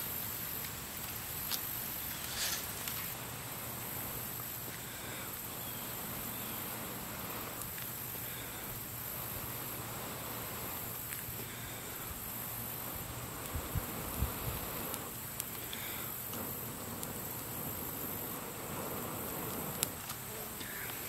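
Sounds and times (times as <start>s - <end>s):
insect chorus: 0.0s - 21.0s
person blowing on tinder: 2.1s - 21.0s.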